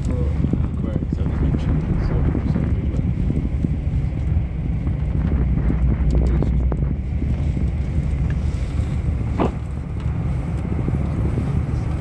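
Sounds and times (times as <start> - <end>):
aerial tramway cabin rumble: 0.0 - 12.0
wind on microphone: 0.0 - 12.0.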